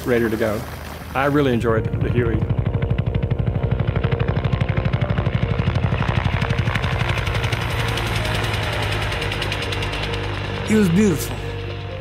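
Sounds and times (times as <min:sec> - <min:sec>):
engine drone: 0:00.0 - 0:12.0
helicopter rotor beating: 0:00.0 - 0:12.0.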